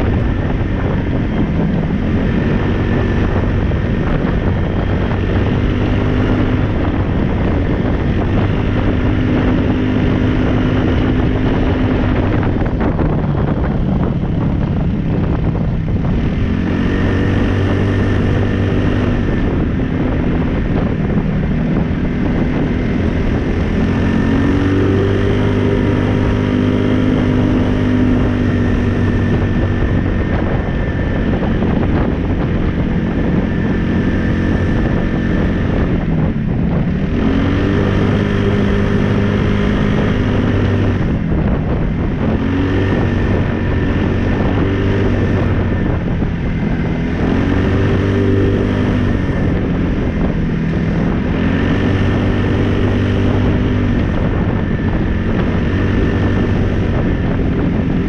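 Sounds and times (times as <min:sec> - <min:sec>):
vehicle engine revving: 0:00.0 - 0:58.0
wind on microphone: 0:00.0 - 0:58.0.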